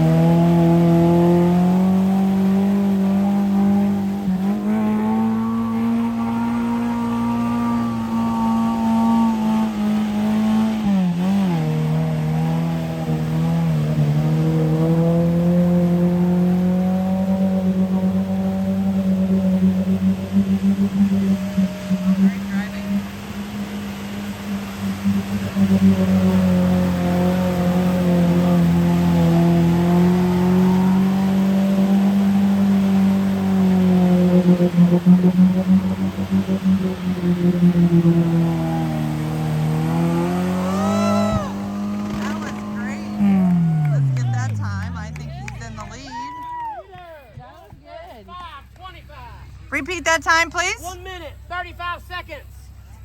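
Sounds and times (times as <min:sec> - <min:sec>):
truck engine at high revs: 0:00.0 - 0:46.5, 0:48.7 - 0:51.6.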